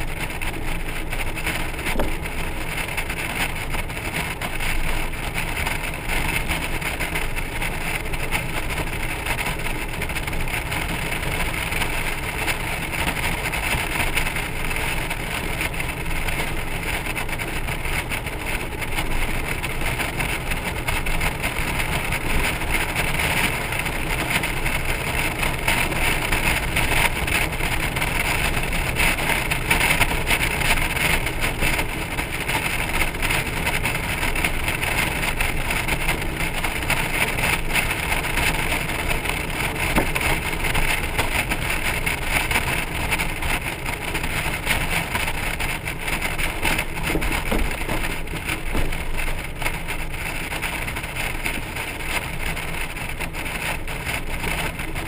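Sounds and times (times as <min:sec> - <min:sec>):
motorcycle road noise: 0:00.0 - 0:55.0.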